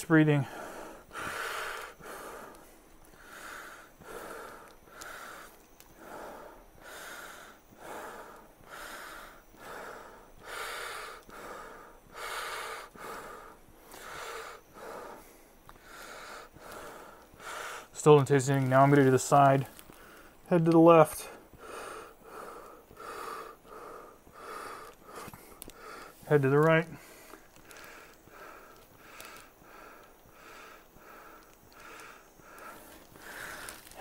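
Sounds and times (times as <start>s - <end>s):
person breathing rapidly through a mask: 0.3s - 34.0s.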